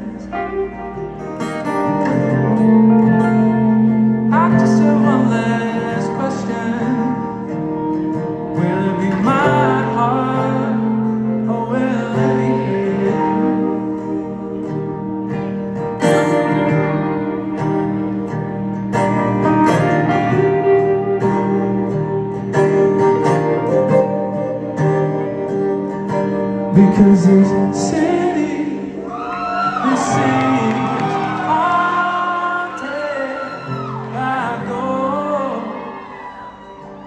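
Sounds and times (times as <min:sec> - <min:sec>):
electric guitar: 0:00.0 - 0:37.0
strummed acoustic guitar: 0:00.0 - 0:37.0.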